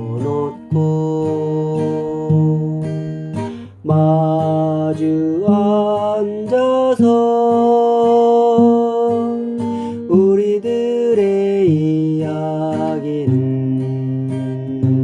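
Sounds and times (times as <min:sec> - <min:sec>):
plucked acoustic guitar chords: 0:00.0 - 0:15.0
woman singing folk song: 0:00.0 - 0:15.0.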